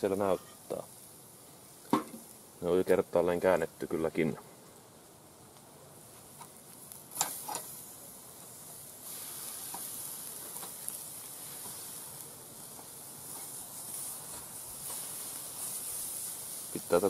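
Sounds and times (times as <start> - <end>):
meat sizzling on grill: 0.0 - 17.0.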